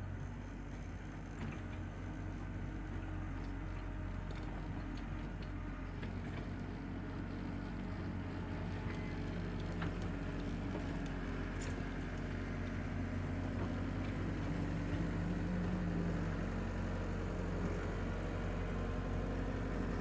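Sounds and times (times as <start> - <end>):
tractor engine running: 0.3 - 20.0.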